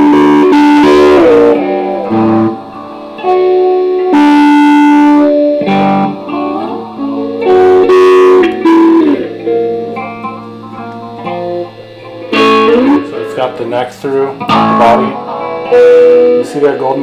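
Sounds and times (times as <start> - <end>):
clean electric guitar notes: 0.0 - 17.0.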